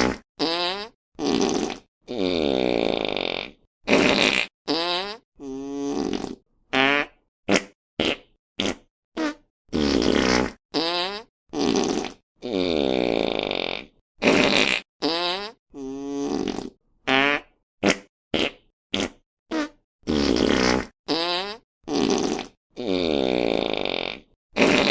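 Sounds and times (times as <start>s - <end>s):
fart sound effects: 0.0s - 24.9s.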